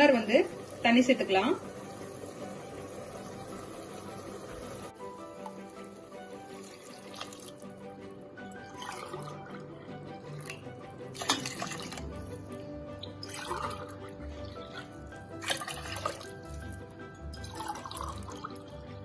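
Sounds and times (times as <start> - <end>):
water pouring into steel pot: 0.0 - 18.8
background music: 0.0 - 19.0.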